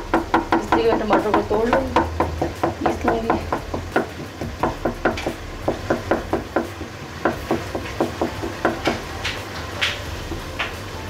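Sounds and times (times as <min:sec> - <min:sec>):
wooden spatula knocking on a pan: 0:00.0 - 0:10.8.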